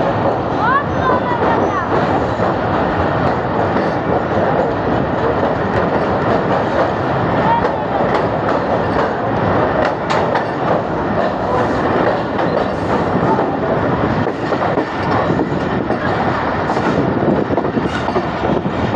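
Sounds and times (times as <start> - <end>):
train wheels clacking: 0.0 - 18.9
train wheels rumbling on rail: 0.0 - 18.9.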